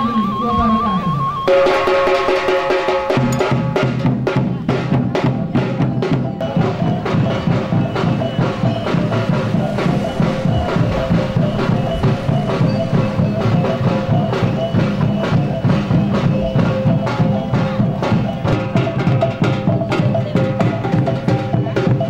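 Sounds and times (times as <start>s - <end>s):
percussion-led music: 0.0s - 22.0s.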